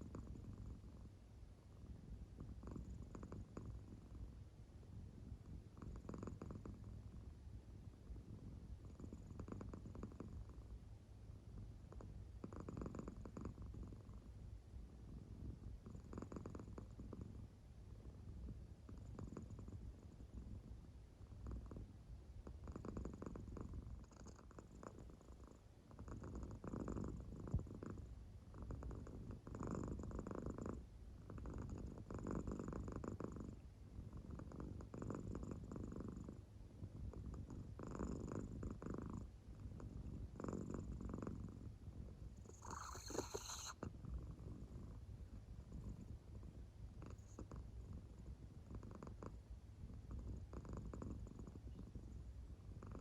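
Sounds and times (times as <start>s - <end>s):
cat purring softly: 0.0s - 53.0s.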